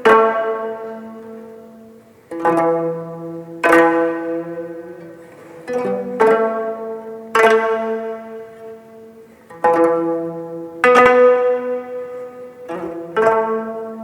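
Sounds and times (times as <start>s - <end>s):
plucked zither notes: 0.0s - 14.0s.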